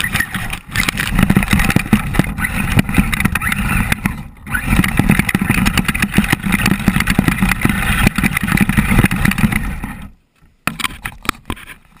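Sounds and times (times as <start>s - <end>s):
gravel rattling and crunching: 0.0s - 12.0s.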